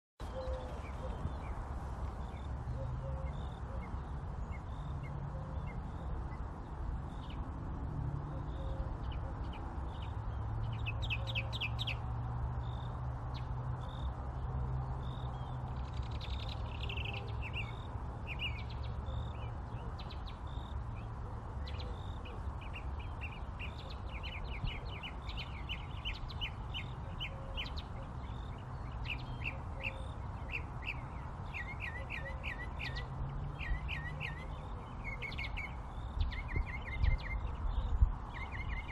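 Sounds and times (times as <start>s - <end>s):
small birds chirping: 0.2s - 38.9s.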